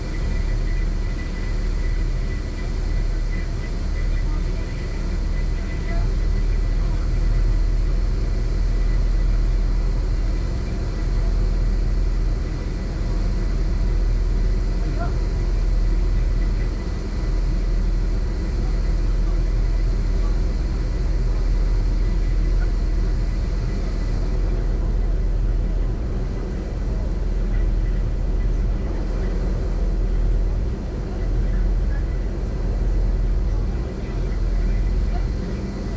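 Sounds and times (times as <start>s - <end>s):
ferry engines rumbling: 0.0s - 35.9s.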